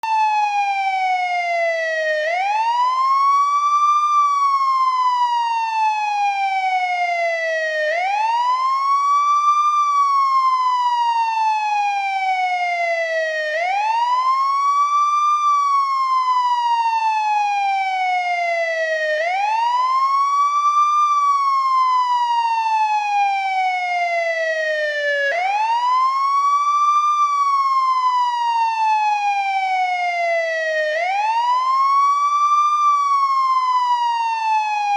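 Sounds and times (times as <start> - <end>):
ambulance wail siren: 0.0 - 34.9.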